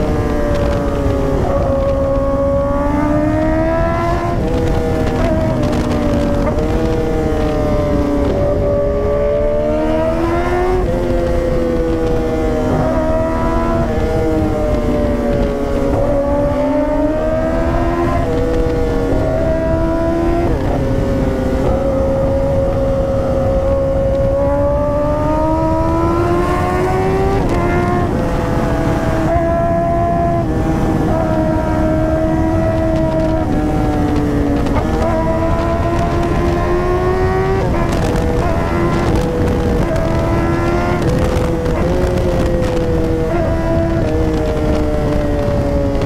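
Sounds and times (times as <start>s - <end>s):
motorcycle engine at speed: 0.0s - 46.0s
wind rumble: 0.0s - 46.0s.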